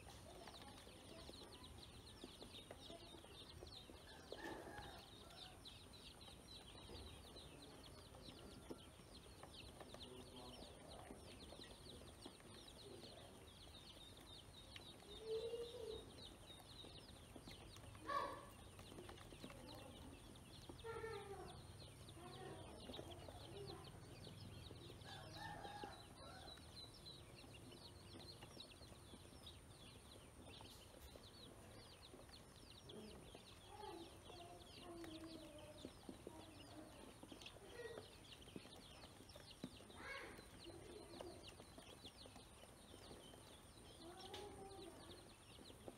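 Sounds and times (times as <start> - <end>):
ducklings peeping: 0.0 - 45.9.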